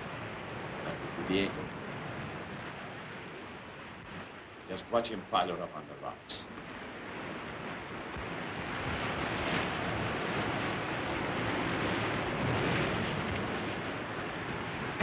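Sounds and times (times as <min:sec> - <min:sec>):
heavy surf: 0:00.0 - 0:15.0
storm wind: 0:00.0 - 0:15.0.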